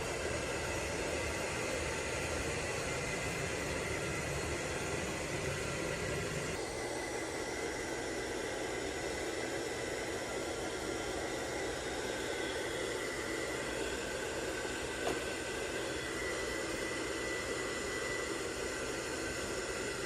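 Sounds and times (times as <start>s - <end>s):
robot vacuum suction hum: 0.0s - 20.0s.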